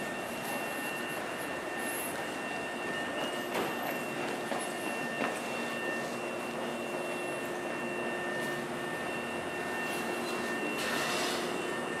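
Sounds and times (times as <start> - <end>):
electric train humming and whining: 0.0 - 12.0.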